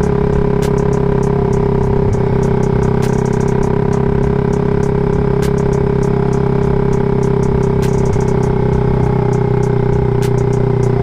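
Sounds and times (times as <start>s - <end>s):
background music: 0.0s - 11.0s
motorcycle engine running: 0.0s - 11.0s.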